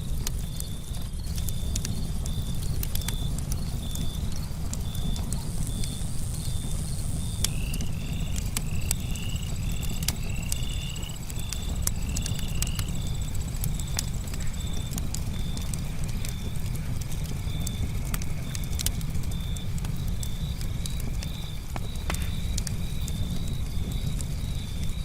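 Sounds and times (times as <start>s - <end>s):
campfire crackling and popping: 0.0s - 25.0s
crickets chirping: 0.0s - 25.0s.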